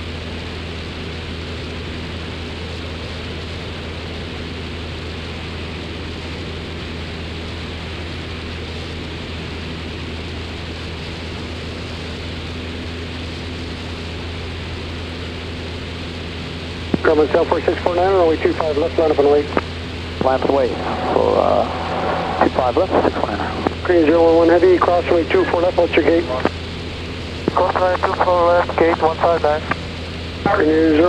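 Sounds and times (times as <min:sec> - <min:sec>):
aircraft engine and propeller drone: 0:00.0 - 0:31.0
constant low hum: 0:00.0 - 0:31.0.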